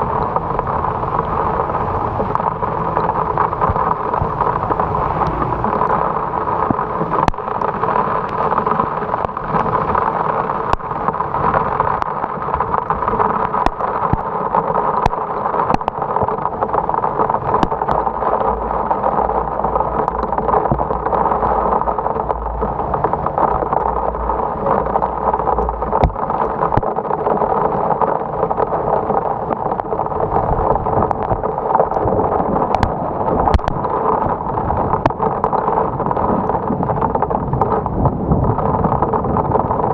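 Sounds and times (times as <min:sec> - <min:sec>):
heavy rain and road noise: 0:00.0 - 0:39.9.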